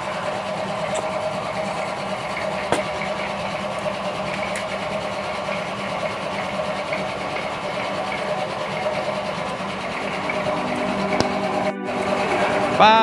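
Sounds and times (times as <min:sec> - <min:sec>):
steady machine drone: 0:00.0 - 0:13.0.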